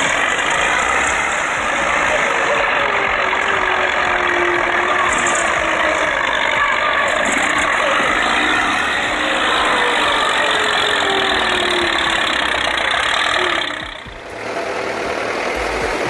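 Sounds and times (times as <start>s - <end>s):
pulling tractor engines running hard: 0.0s - 16.0s.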